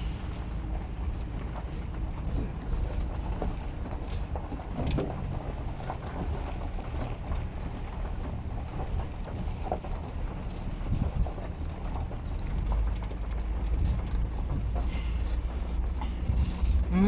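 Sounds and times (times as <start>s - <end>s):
vehicle driving on bumpy road: 0.0s - 17.0s
knocks and rattles: 1.5s - 16.7s.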